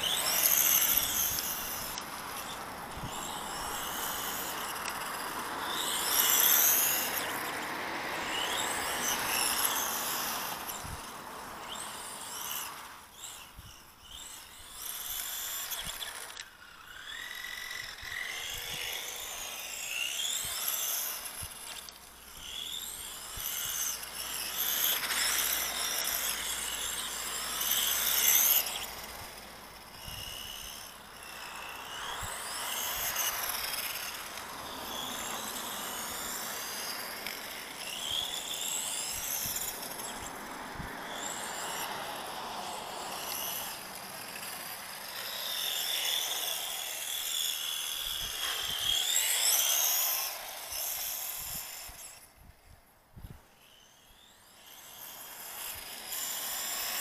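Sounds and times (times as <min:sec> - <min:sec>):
rc car motor whining: 0:00.0 - 0:57.0.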